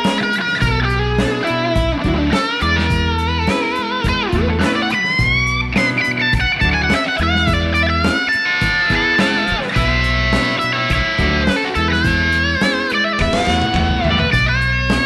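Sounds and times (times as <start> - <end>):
bass: 0.0 - 15.0
drum beat: 0.0 - 15.0
overdriven electric guitar solo: 0.0 - 15.0.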